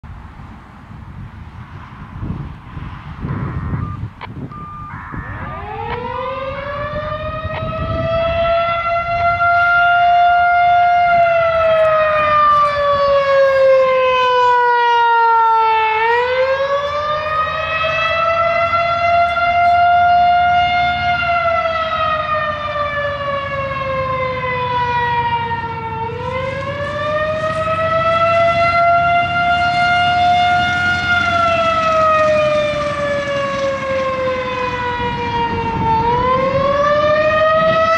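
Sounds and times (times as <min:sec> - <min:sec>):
warning siren winding up and down: 0:03.1 - 0:37.9.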